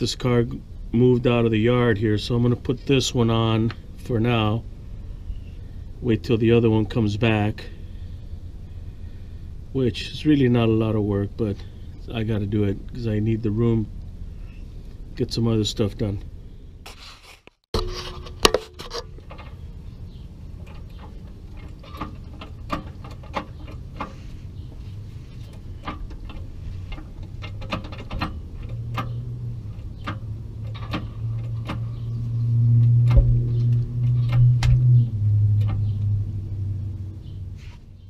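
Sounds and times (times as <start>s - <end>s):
steady low hum: 0.0s - 17.0s, 17.8s - 38.0s.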